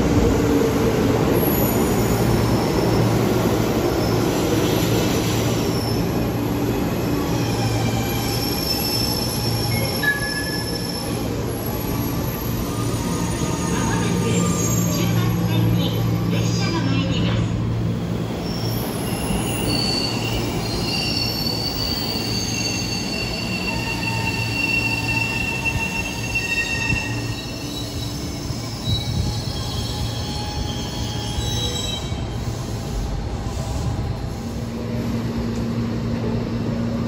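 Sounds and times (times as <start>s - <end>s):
train wheels squealing on rails: 0.6s - 16.6s, 17.8s - 35.3s.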